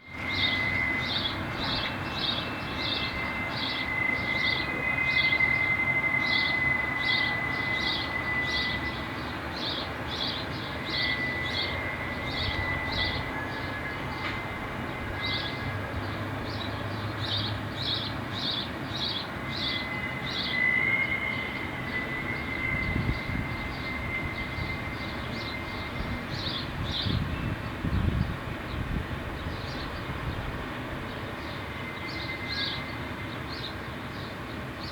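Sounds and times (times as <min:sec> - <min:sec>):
distant high-pitched brake squeal: 0:00.0 - 0:28.0, 0:31.1 - 0:34.9.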